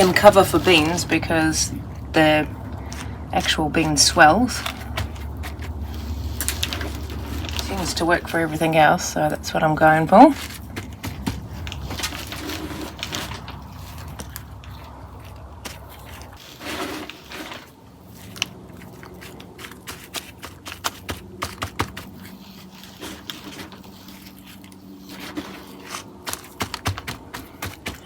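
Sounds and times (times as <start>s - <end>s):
soil scraping and crunching: 0.0s - 28.0s.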